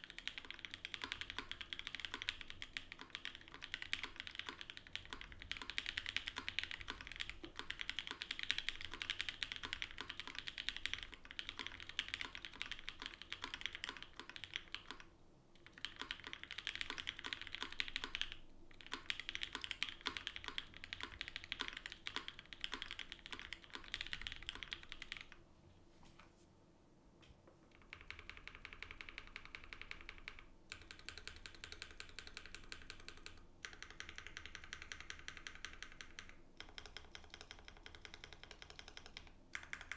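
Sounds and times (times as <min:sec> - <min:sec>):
mechanical keyboard typing: 0:00.0 - 0:25.4, 0:27.6 - 0:39.9.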